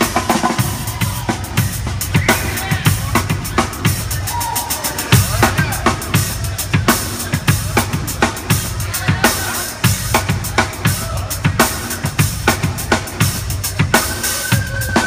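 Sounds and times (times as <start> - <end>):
drum kit beat: 0.0 - 15.0.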